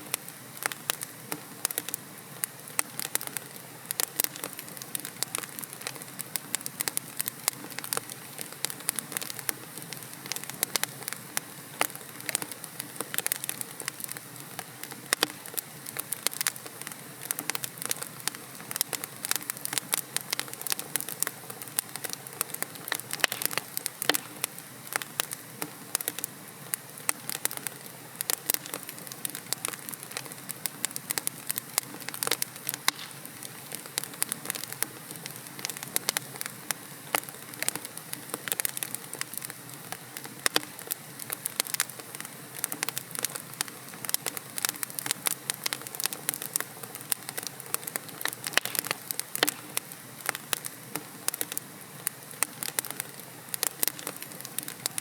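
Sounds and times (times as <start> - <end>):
logs crackling in a fireplace: 0.0 - 55.0.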